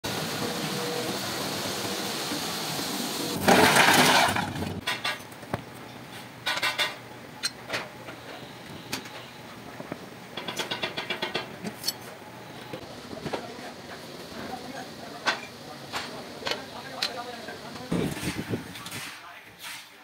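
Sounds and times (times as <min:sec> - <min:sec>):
furnace roar of molten iron: 0:00.0 - 0:20.0.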